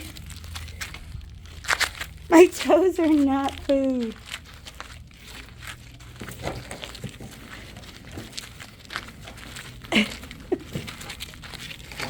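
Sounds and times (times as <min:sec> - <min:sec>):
light footsteps: 0:00.0 - 0:12.0
rustling: 0:00.0 - 0:12.0.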